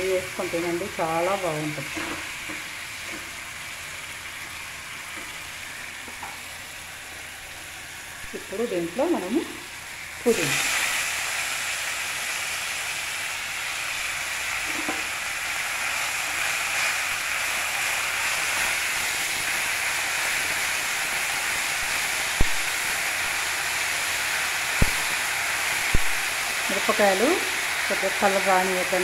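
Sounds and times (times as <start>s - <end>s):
leaves frying in hot oil: 0.0s - 29.0s.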